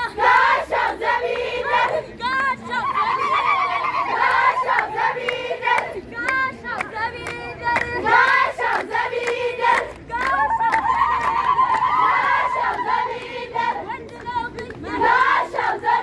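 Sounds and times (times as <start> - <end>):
girls singing in chorus: 0.0 - 11.0, 11.7 - 16.0.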